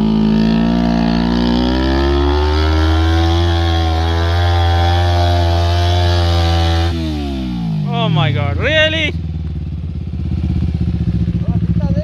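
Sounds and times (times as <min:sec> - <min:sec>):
go-kart engine revving: 0:00.0 - 0:12.0.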